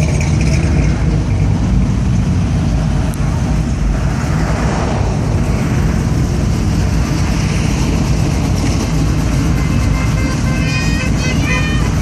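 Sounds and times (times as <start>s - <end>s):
cars driving past: 0.0s - 10.4s.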